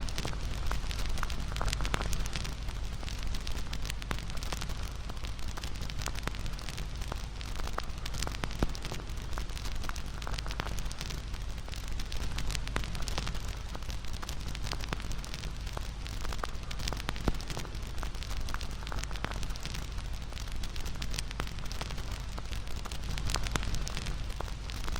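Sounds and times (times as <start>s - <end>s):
low rumble of flames: 0.0s - 24.9s
wood bonfire crackling: 0.0s - 24.9s.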